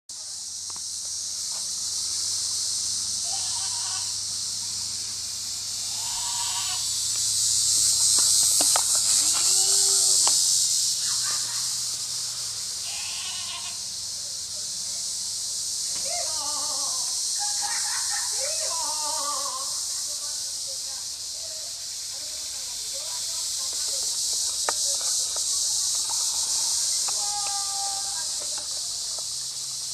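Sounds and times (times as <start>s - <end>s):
high-pitched hiss: 0.1s - 29.9s.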